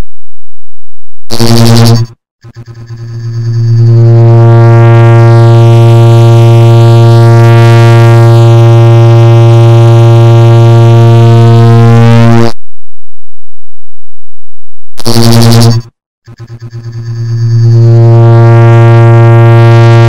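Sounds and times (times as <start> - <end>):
steady buzzing drone: 1.3 - 12.6, 15.0 - 20.0.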